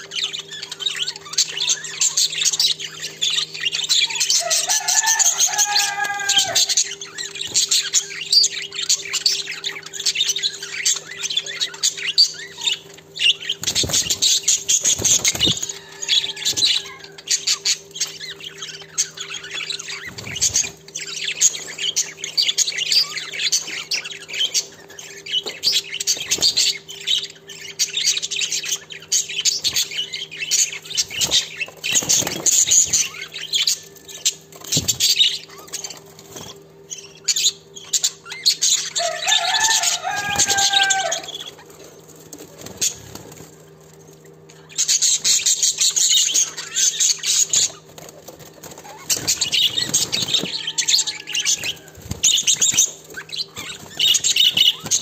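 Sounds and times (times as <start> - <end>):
budgerigars chattering: 0.0 - 43.3, 44.5 - 55.0
steady low hum: 0.0 - 55.0.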